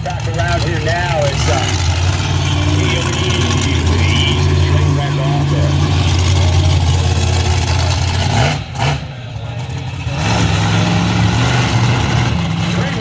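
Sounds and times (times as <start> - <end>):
monster truck engine running rough: 0.0 - 13.0.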